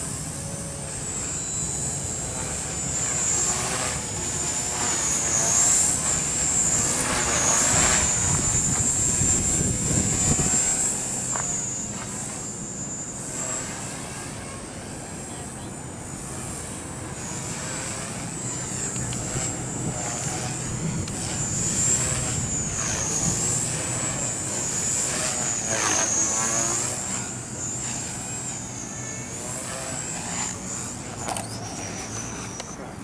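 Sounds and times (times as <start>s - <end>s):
rc helicopter whine: 0.0s - 33.0s.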